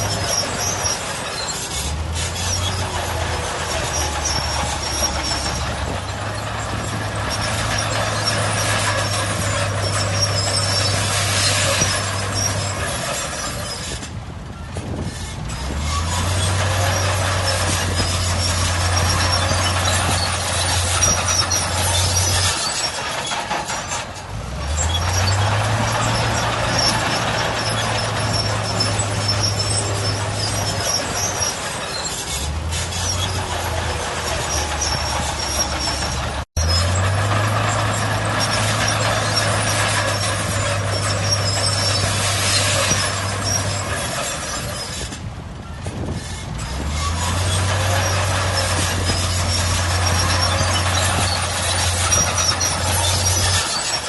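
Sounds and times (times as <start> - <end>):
diesel machinery engine revving: 0.0 - 54.0.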